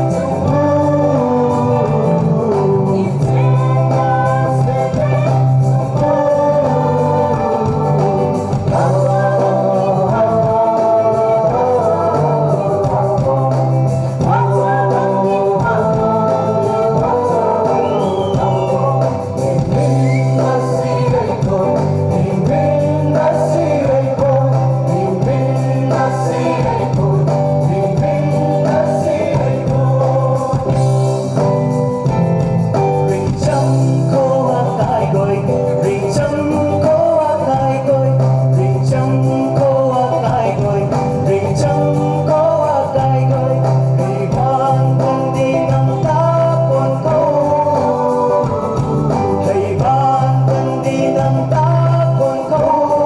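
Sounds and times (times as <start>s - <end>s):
men and women singing through pa: 0.0s - 32.2s, 32.8s - 53.0s
instrumental accompaniment with bass: 0.0s - 53.0s.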